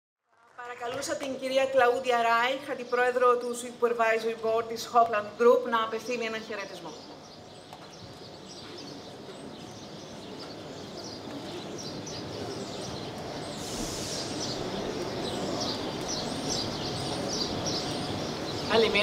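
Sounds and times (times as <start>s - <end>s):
steady background noise: 0.3s - 19.0s
small birds chirping: 0.8s - 19.0s.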